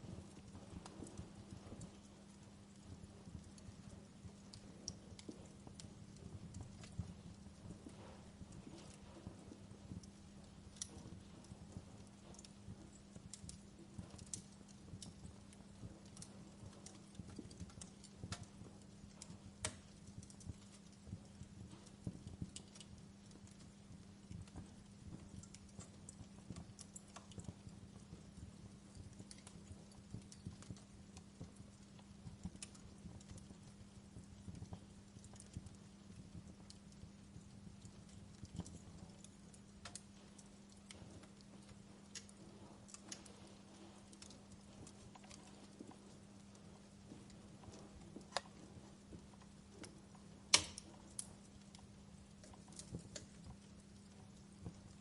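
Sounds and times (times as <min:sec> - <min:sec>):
steady low hum: 0:00.0 - 0:55.0
wood fire crackling: 0:00.0 - 0:55.0
sharp pops and snaps: 0:00.1 - 0:55.0.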